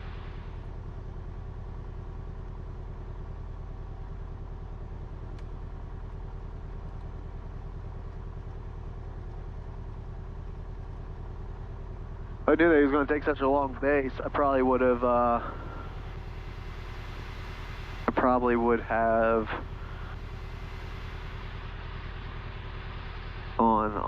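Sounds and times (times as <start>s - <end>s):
aircraft engine idling: 0.0s - 24.0s.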